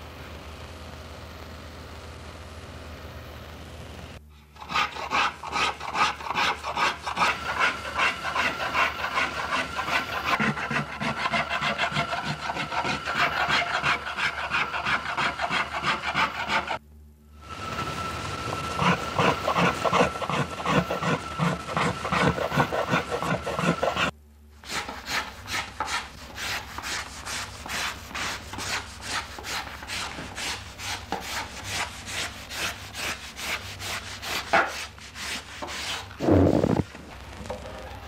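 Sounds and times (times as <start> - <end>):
tool scraping wood: 4.6 - 16.8, 18.5 - 36.9.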